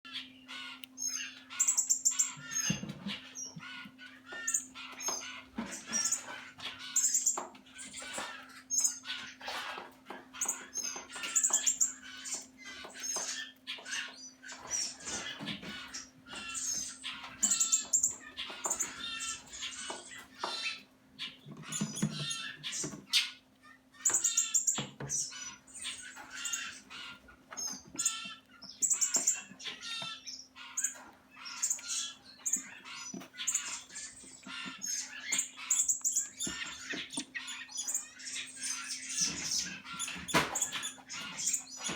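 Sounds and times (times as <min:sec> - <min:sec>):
woodpeckers calling: 0:00.1 - 0:41.9.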